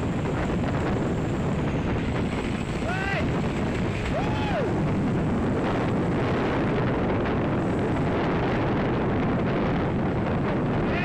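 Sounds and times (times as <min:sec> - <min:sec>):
road and engine rumble: 0:00.0 - 0:11.0
wind rushing over microphone: 0:00.0 - 0:11.0.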